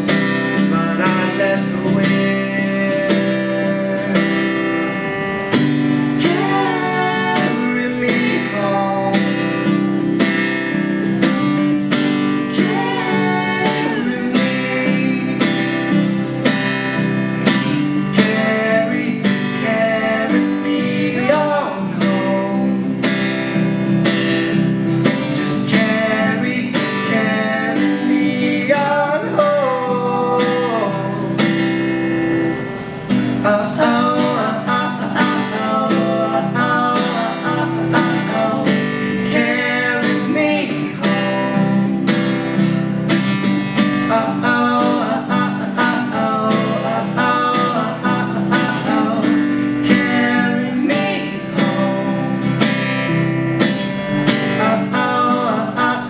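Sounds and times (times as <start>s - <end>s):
person singing: 0.0s - 16.5s, 17.4s - 23.2s, 25.2s - 31.7s, 33.3s - 42.6s, 43.7s - 52.8s, 54.2s - 56.0s
acoustic guitar strumming: 0.0s - 56.0s.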